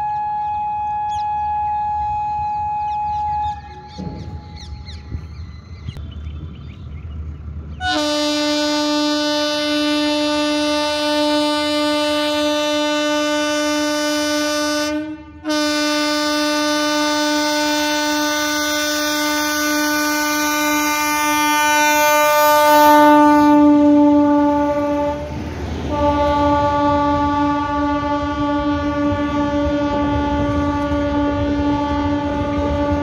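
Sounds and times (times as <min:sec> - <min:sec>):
locomotive air horn: 0:00.0 - 0:04.6, 0:07.8 - 0:33.0
passing locomotive rumble: 0:00.0 - 0:33.0.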